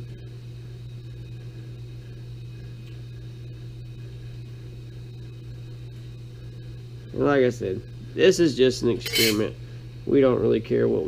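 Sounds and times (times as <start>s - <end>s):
faint high whine: 0.0s - 11.0s
low electrical hum: 0.0s - 11.0s.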